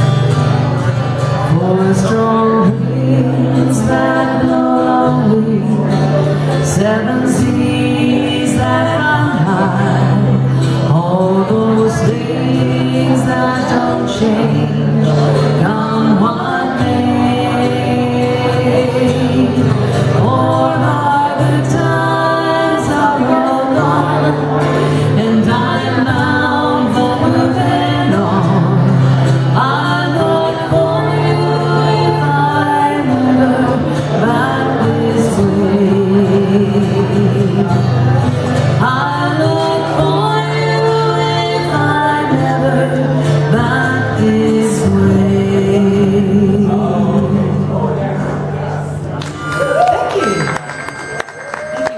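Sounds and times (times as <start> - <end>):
acoustic guitars: 0.0 - 51.9
women singing: 1.4 - 47.7.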